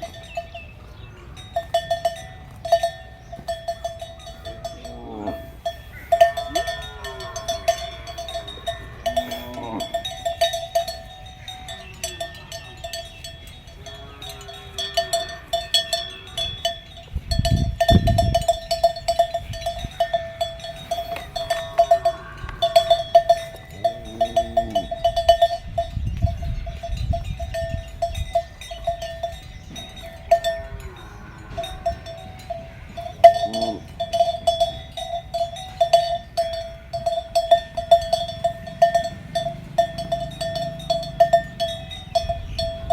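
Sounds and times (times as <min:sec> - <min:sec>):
cattle bells clanking: 0:00.0 - 0:42.9.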